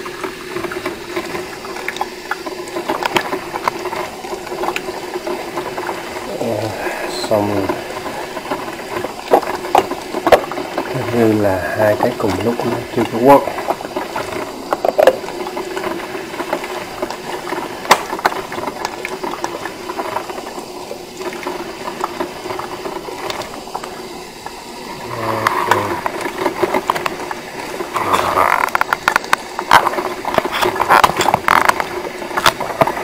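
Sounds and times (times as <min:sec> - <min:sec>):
coffee maker hum: 0:00.0 - 0:33.0.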